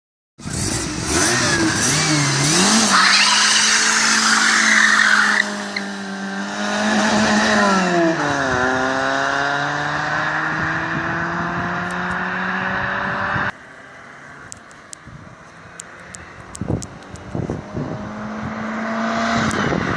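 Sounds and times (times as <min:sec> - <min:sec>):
car engine revving: 0:00.4 - 0:14.4, 0:15.7 - 0:19.9.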